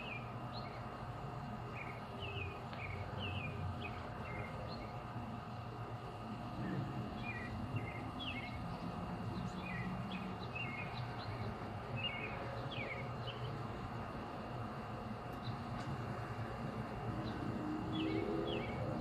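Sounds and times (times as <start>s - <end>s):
birds chirping: 0.0s - 19.0s
low background hum: 0.0s - 19.0s.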